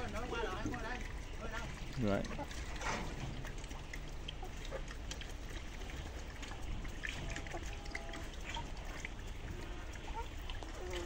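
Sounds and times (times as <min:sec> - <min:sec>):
pecking ticks and rustles: 0:00.0 - 0:11.0.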